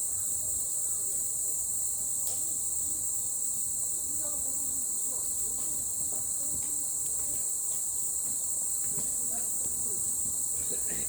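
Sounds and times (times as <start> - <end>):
faint distant voices: 0.0 - 11.0
insects chirping: 0.0 - 11.0.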